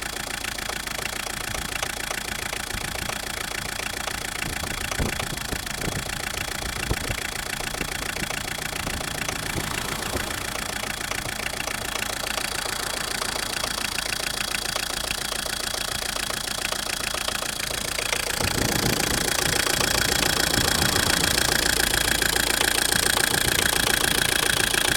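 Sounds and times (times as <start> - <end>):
diesel engine knocking: 0.0 - 24.9.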